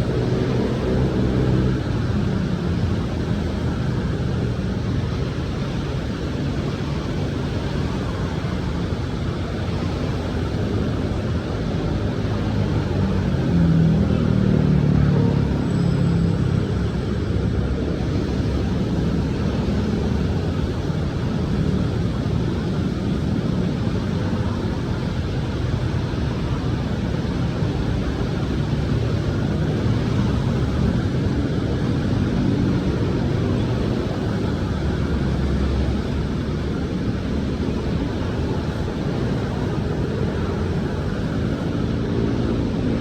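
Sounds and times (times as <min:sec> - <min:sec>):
city street traffic rumble: 0:00.0 - 0:43.0
rain: 0:00.0 - 0:43.0.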